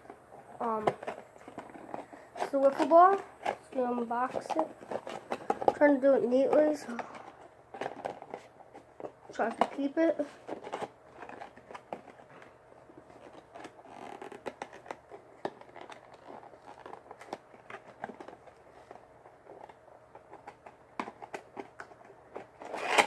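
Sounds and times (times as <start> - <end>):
packaging clicks and rustling: 0.6 - 23.0.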